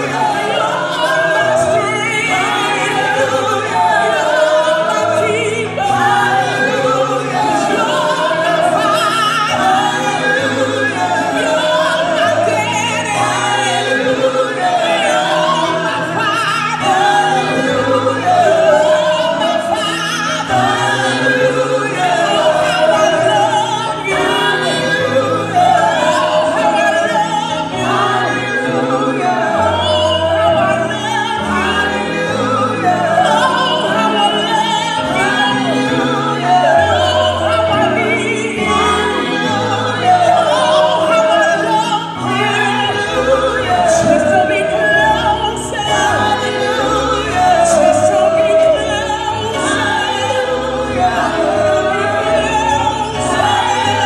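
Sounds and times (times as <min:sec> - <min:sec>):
gospel singing: 0:00.0 - 0:54.0.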